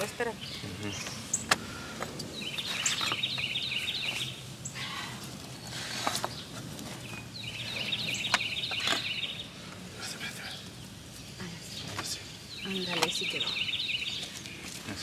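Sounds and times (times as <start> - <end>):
leaves crackling and rustling: 0.0 - 15.0
songbird twittering: 0.0 - 15.0.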